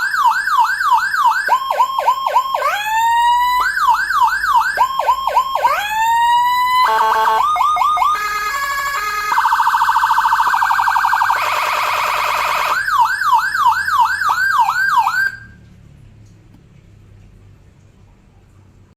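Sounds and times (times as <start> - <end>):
electronic siren cycling tones: 0.0 - 15.6.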